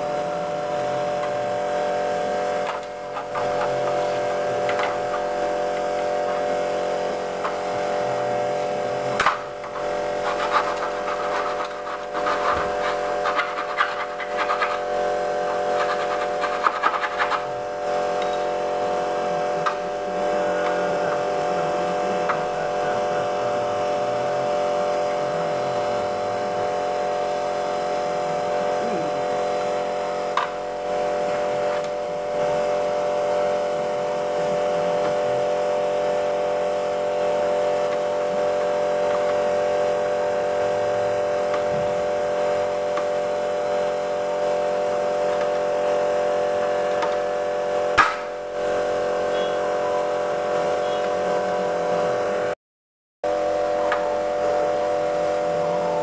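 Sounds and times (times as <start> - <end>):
steady mechanical hum: 0.0 - 52.6, 53.3 - 56.0.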